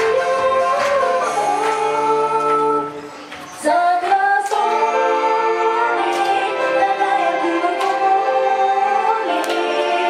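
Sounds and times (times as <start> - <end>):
woman singing pop song: 0.0 - 10.0.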